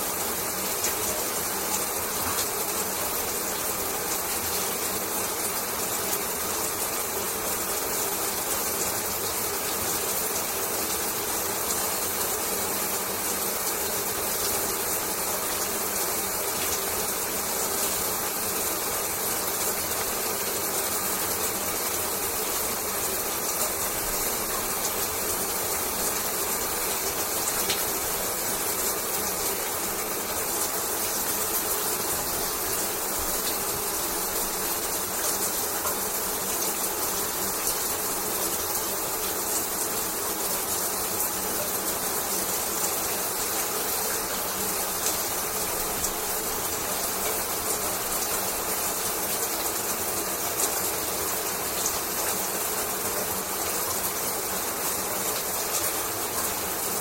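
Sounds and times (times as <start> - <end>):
shower running: 0.0 - 57.0.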